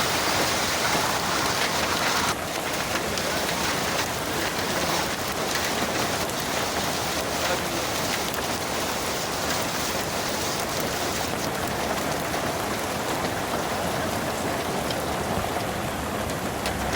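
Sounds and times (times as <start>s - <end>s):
rain pattering on surface: 0.0s - 16.9s.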